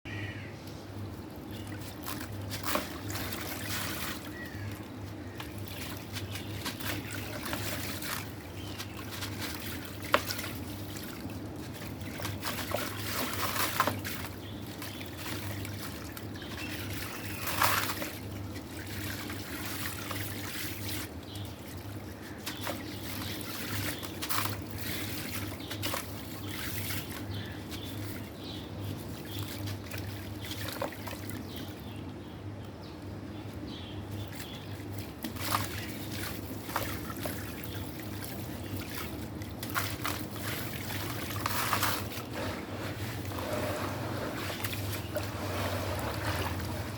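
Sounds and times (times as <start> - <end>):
low steady hum: 0.1 - 46.9.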